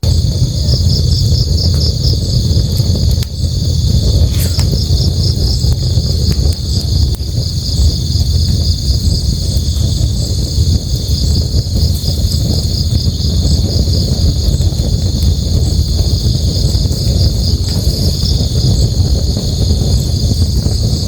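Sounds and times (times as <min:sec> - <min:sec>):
campfire crackling and popping: 0:00.0 - 0:21.0
crickets chirping: 0:00.0 - 0:21.0.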